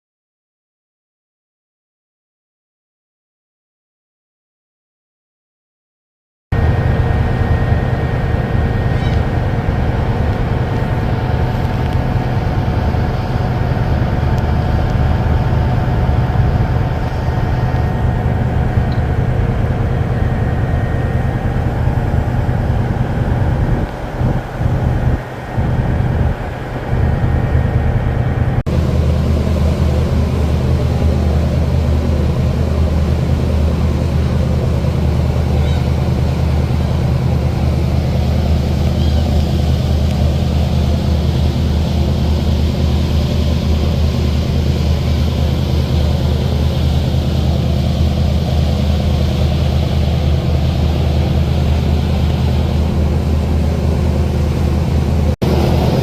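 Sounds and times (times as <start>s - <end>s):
large engine droning: 6.5s - 56.0s.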